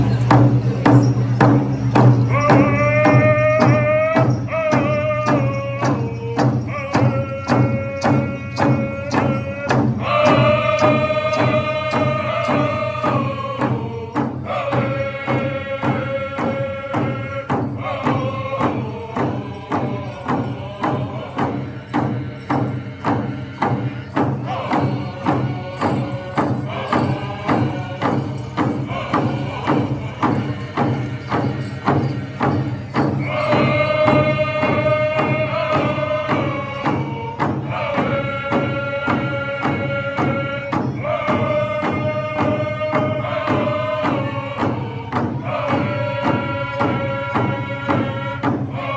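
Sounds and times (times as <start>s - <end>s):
large drum steady beat: 0.0s - 48.9s
voices singing in unison: 0.0s - 48.9s.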